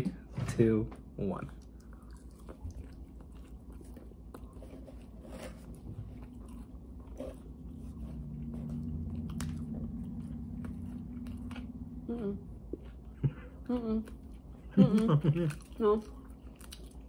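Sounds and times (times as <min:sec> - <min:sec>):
low steady hum: 0:00.0 - 0:17.0
people chewing crunchy food: 0:01.4 - 0:17.0.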